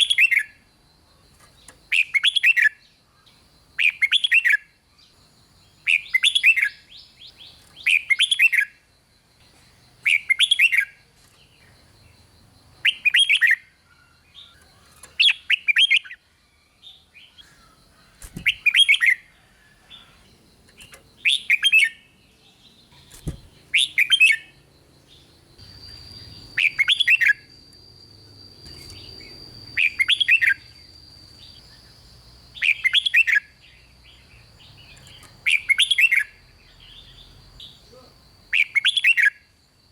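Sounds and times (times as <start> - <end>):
faint steady high tone: 0.0 - 39.9.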